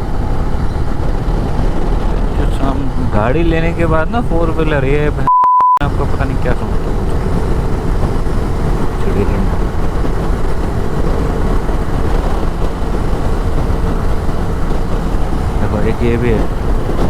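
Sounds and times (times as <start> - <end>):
motorcycle engine running: 0.0 - 5.2, 5.8 - 17.0
wind rushing on microphone: 0.0 - 5.2, 5.8 - 17.0.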